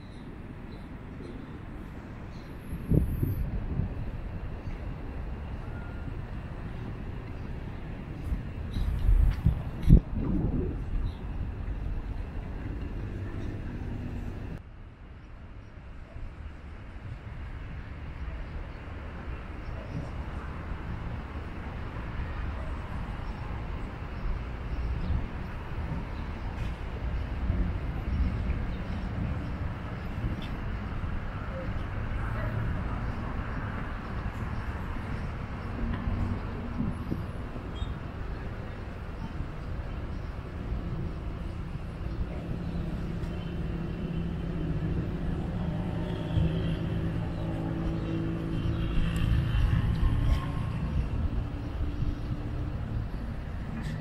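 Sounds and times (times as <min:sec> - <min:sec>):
engine rumbling: 0:00.0 - 0:14.6, 0:22.7 - 0:54.0
wind buffeting microphone: 0:00.0 - 0:14.6, 0:16.4 - 0:54.0
outdoor background noise: 0:00.0 - 0:54.0.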